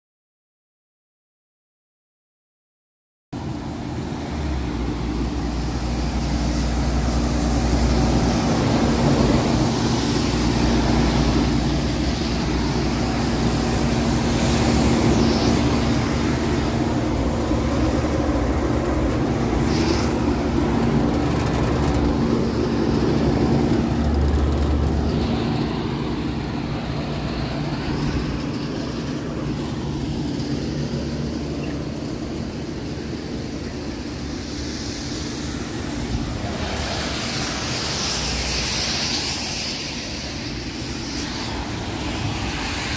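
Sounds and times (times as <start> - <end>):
condenser fan rushing: 3.4 - 42.9
wind rumble on microphone: 3.4 - 42.9.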